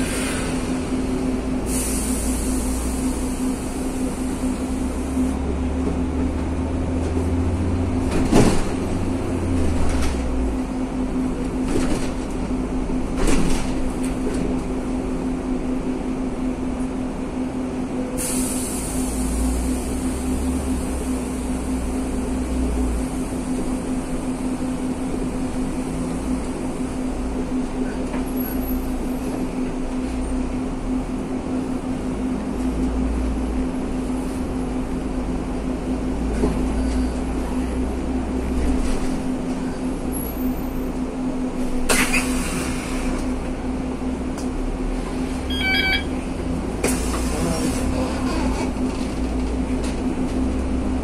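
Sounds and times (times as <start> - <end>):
bus engine rumble: 0.0 - 51.0.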